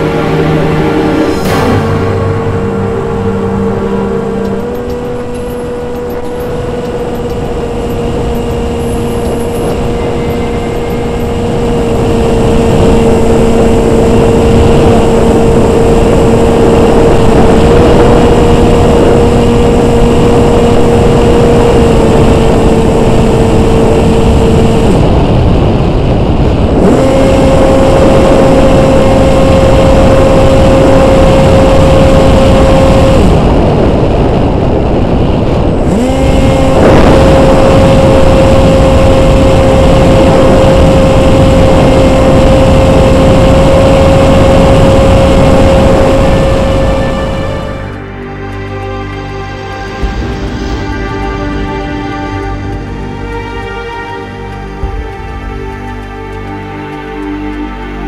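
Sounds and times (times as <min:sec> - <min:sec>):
wind rush: 0:00.0 - 0:57.3
electric motor and propeller whine: 0:00.0 - 0:58.0.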